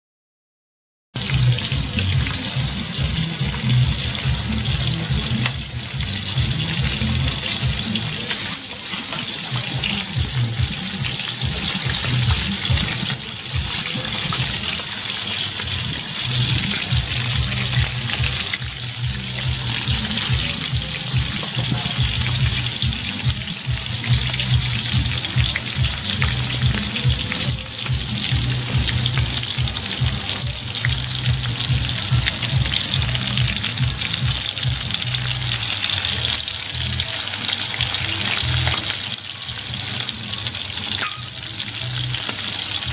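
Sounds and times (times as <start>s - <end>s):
music with pulsing beat: 1.2s - 8.5s, 9.2s - 39.0s
birds sizzling in frying oil: 1.2s - 42.9s.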